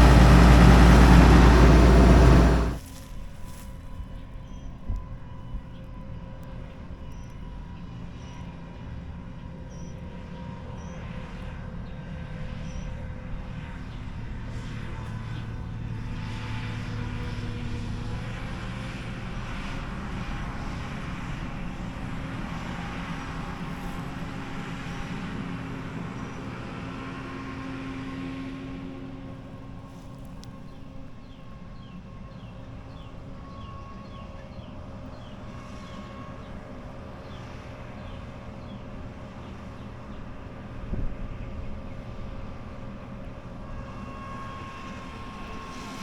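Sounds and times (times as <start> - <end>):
farm machinery engine drone: 0.0 - 3.7, 10.6 - 46.0.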